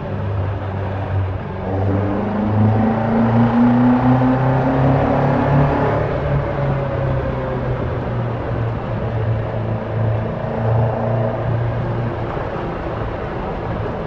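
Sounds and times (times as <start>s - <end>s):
car engine at steady revs: 0.0s - 14.0s
road and wind noise: 0.0s - 14.0s.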